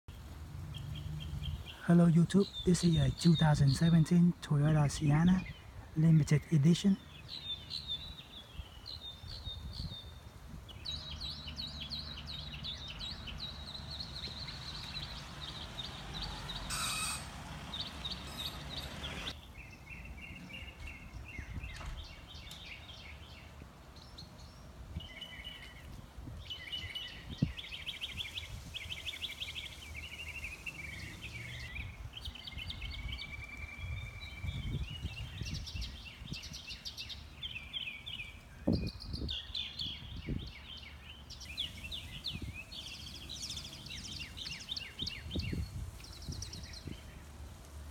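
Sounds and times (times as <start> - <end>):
songbirds chirping and trilling: 0.1 - 47.9.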